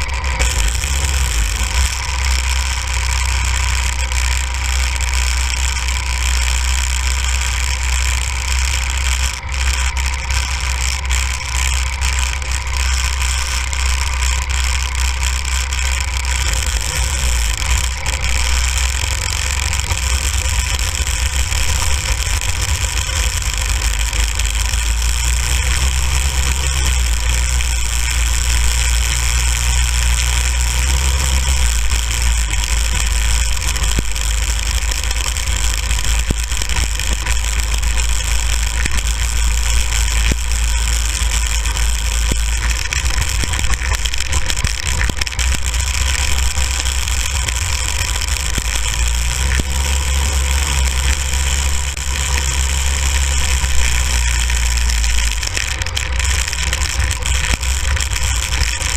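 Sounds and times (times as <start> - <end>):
go-kart engine running: 0.0 - 58.9.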